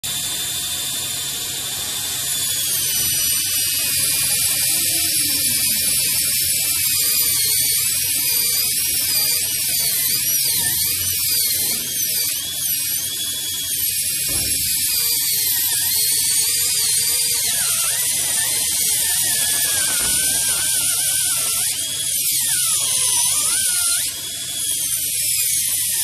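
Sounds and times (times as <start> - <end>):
dental drill hissing and whining: 0.0 - 26.0.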